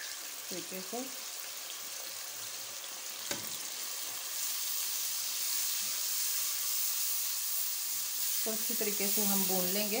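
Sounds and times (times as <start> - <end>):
oil sizzling: 0.0 - 10.0.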